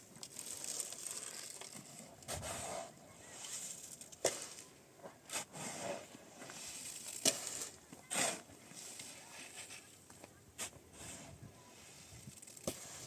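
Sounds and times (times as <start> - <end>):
soft rustling and scraping: 0.2 - 13.0.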